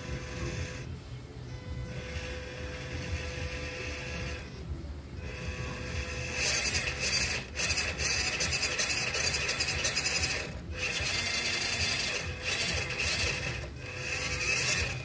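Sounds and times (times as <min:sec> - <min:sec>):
electric motor gritty whirr: 0:00.0 - 0:15.0.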